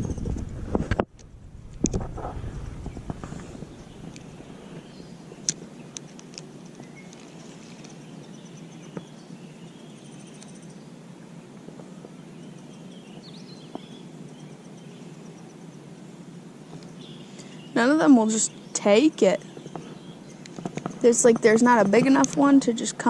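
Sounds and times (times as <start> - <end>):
low background noise: 0.0 - 23.0
small birds chirping: 2.3 - 23.0.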